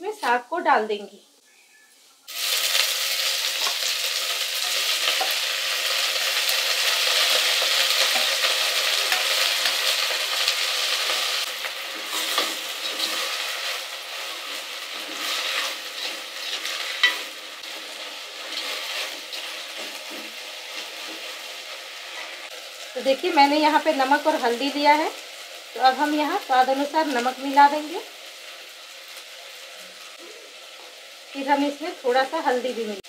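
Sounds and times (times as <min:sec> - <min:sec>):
leaves sizzling in hot oil: 0:02.2 - 0:33.0.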